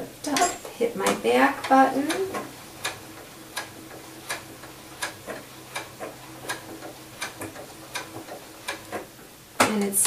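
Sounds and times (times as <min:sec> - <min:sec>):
sewing machine motor hum: 0:01.0 - 0:09.1.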